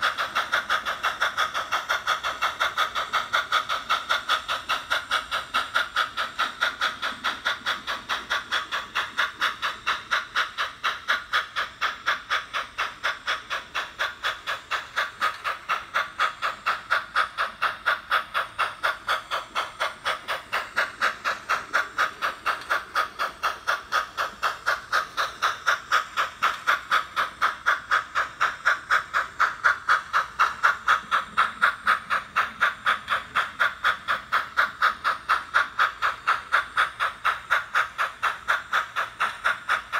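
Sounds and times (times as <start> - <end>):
model train steam chuffs from speaker: 0.0 - 39.9.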